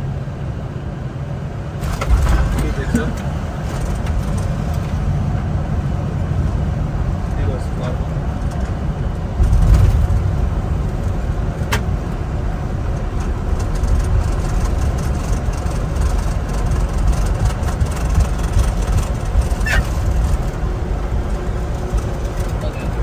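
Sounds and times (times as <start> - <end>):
aircraft engines and wheels rumbling: 0.0 - 23.0.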